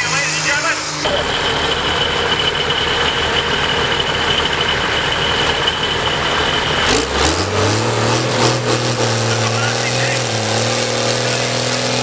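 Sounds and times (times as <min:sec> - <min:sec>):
diesel engine revving with whine: 0:00.0 - 0:12.0.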